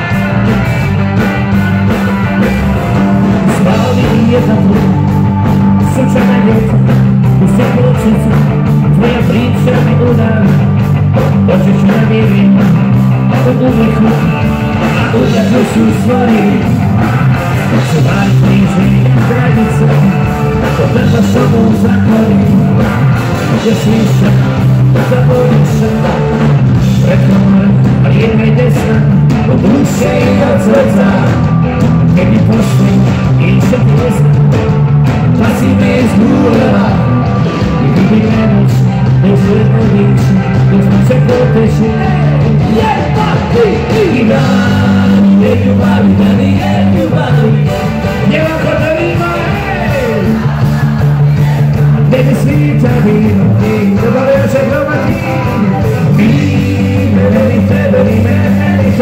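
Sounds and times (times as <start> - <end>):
male lead vocal: 0.0 - 34.6, 35.2 - 59.0
bass guitar: 0.0 - 59.0
drums: 0.0 - 59.0
electric guitar: 0.0 - 59.0
keyboards: 0.0 - 59.0.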